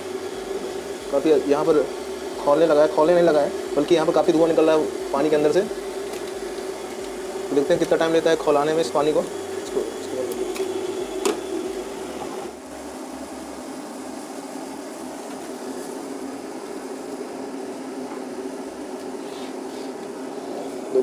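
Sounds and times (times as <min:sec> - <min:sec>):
electric kettle heating water: 0:00.0 - 0:19.2.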